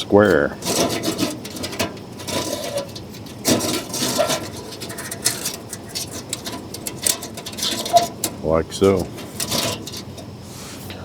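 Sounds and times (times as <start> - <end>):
metal panels clicking and clinking: 0.0 - 10.4
metal scraping: 0.0 - 10.9.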